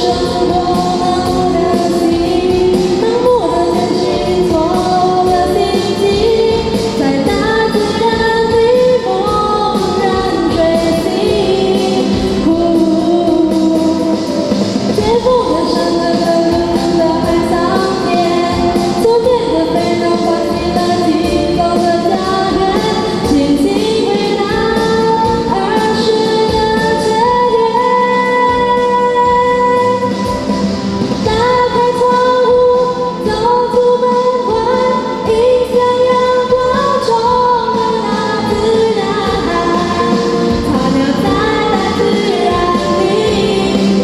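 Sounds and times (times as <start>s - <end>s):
woman singing: 0.0s - 30.6s, 31.2s - 44.0s
instrumental accompaniment: 0.0s - 44.0s.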